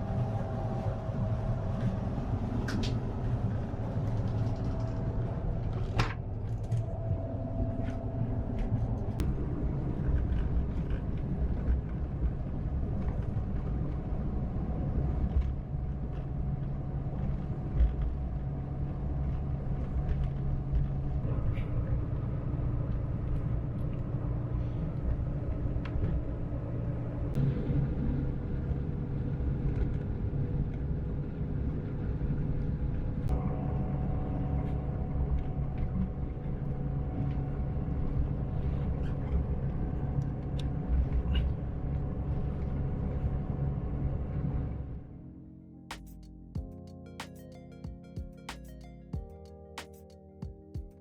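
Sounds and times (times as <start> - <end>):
bus engine and tyres rumbling: 0.0 - 47.5.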